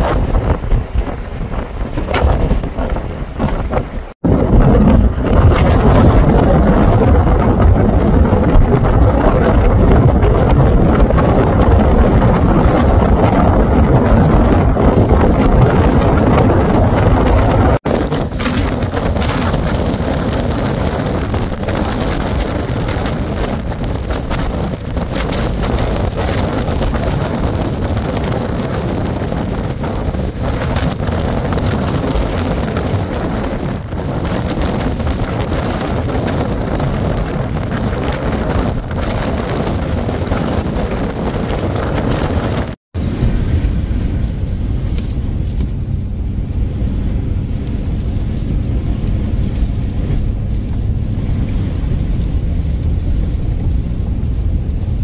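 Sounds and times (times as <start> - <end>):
rain: 0.0 - 55.0
storm wind buffeting microphone: 0.0 - 55.0.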